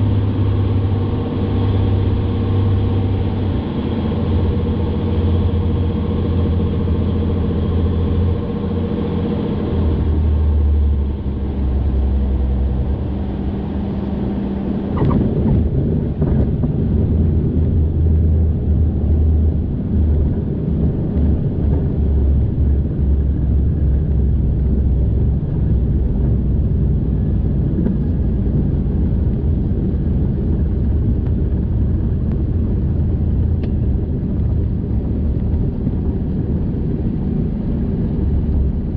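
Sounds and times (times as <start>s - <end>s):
light airplane engine and propeller: 0.0s - 38.9s.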